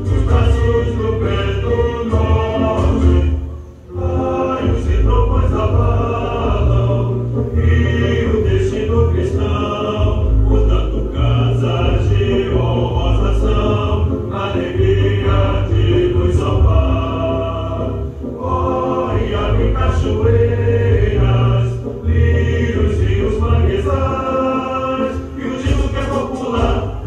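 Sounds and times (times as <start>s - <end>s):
choir singing with instruments: 0.0s - 27.0s.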